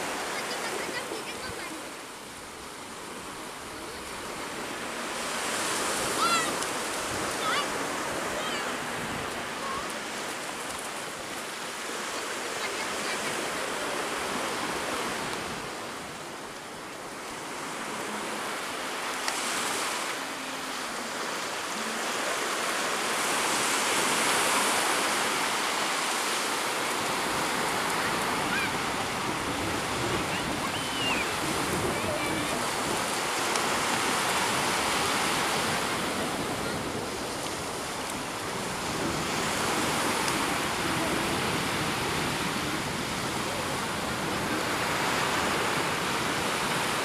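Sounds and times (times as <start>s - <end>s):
sea waves washing onto beach: 0.0s - 47.0s.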